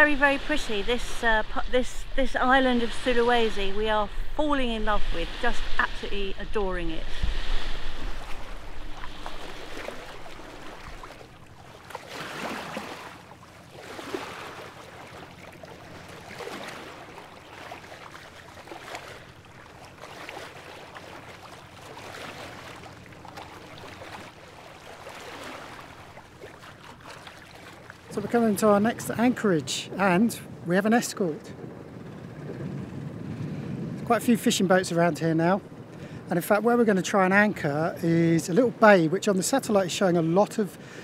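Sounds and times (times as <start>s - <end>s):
faint engine hum: 0.0s - 34.1s
water rushing along hull: 0.0s - 41.0s.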